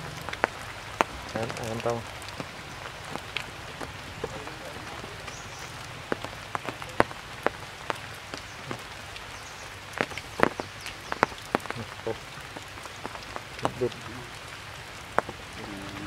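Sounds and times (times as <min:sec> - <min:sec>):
drops tapping: 0:00.0 - 0:09.0, 0:10.0 - 0:16.0
rain falling on leaves: 0:00.0 - 0:16.0.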